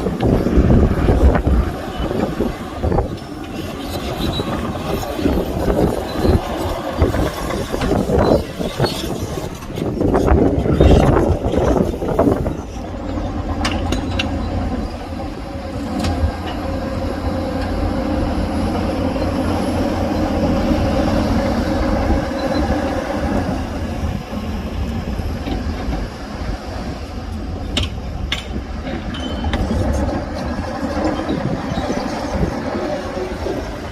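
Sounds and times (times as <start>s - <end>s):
heavy machinery diesel engines: 0.0s - 33.9s.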